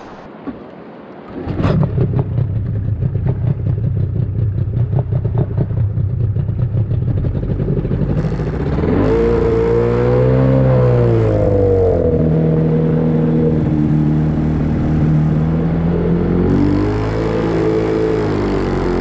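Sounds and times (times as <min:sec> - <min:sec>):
boat motor rattling: 0:01.3 - 0:19.0.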